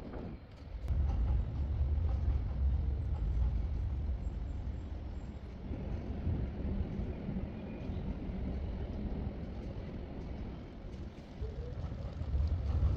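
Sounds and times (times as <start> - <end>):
train rumbling slowly: 0.0 - 12.9.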